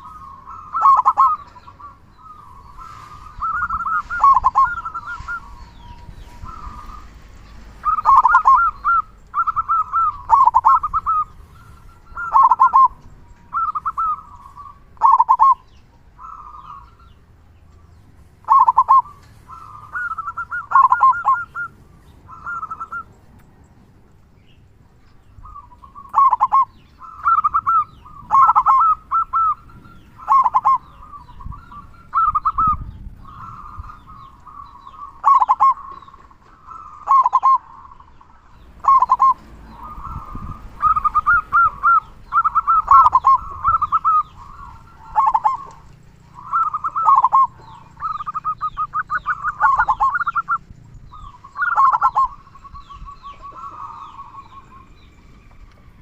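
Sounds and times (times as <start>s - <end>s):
dove cooing: 0.0s - 17.1s, 18.4s - 23.1s, 25.4s - 55.8s.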